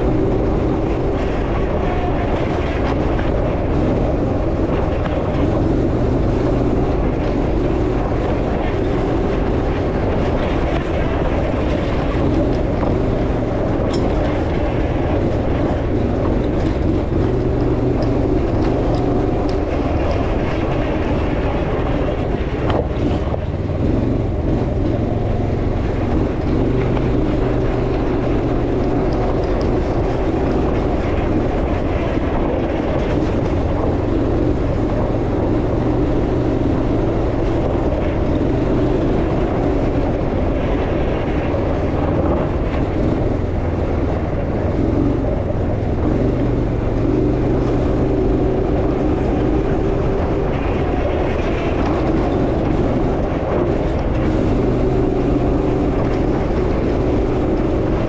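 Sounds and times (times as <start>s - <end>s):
buggy engine droning: 0.0s - 58.0s.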